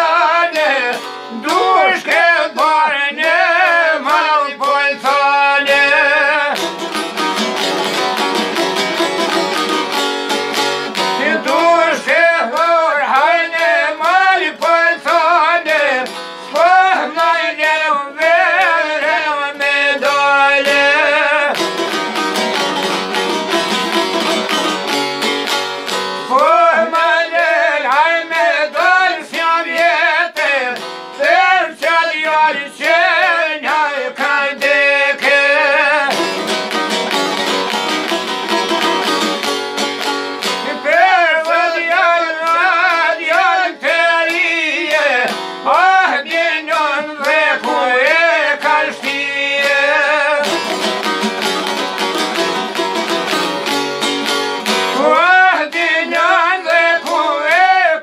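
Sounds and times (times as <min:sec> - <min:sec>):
man singing folk melody: 0:00.0 - 0:09.3, 0:10.9 - 0:24.7, 0:26.1 - 0:39.5, 0:40.4 - 0:53.8, 0:54.6 - 0:58.0
strummed long-necked lute: 0:00.0 - 0:58.0
second string instrument: 0:00.6 - 0:02.8, 0:05.9 - 0:12.8, 0:20.0 - 0:57.4.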